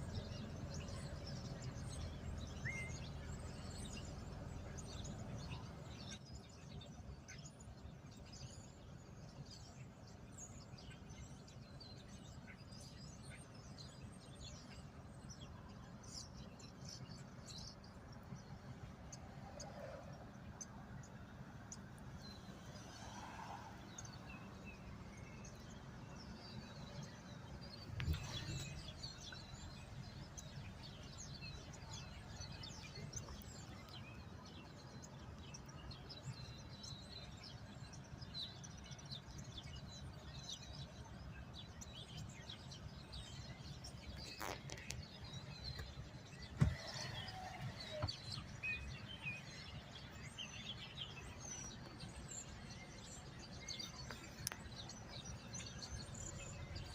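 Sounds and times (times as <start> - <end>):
small birds chirping: 0.0 - 19.5, 23.8 - 56.9.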